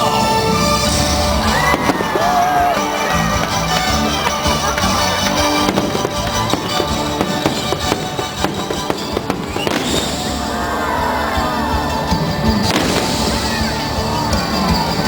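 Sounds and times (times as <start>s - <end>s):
fireworks bursting: 0.0s - 15.0s
music: 0.0s - 15.0s.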